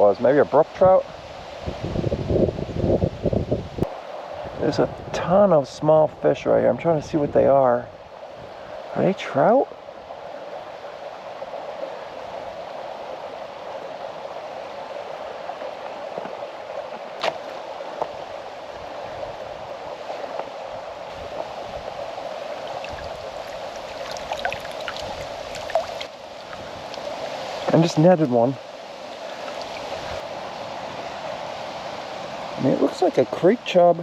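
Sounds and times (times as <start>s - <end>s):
creek flowing over rocks: 3.8s - 34.0s.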